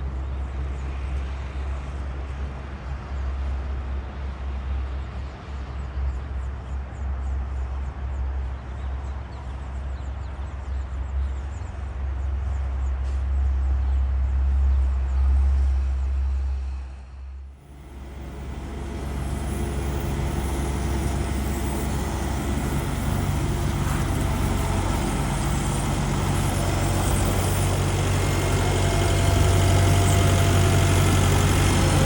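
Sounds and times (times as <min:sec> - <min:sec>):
diesel paving machinery rumble: 0:00.0 - 0:16.9, 0:17.5 - 0:32.0.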